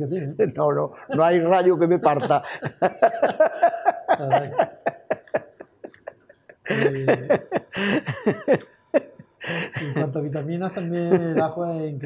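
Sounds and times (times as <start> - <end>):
man laughing: 0.0 - 11.7.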